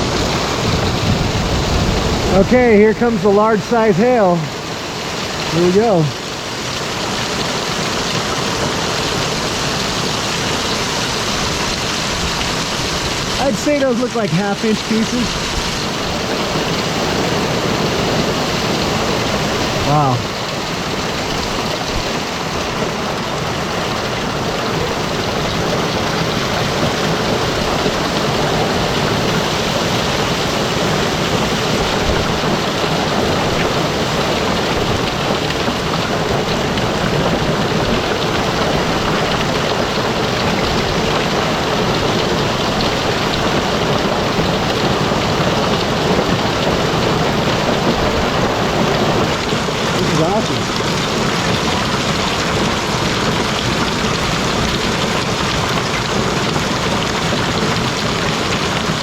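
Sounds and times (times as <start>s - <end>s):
heavy rain and hail: 0.0s - 59.0s.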